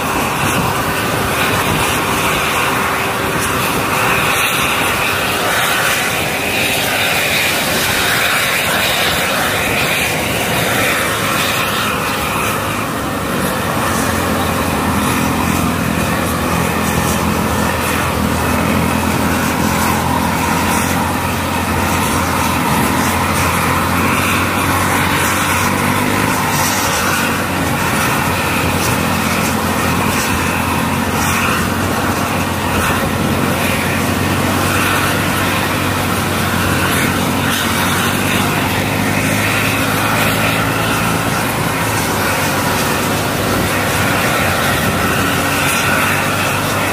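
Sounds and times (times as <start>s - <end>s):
vehicle engine noise: 0.0s - 46.9s.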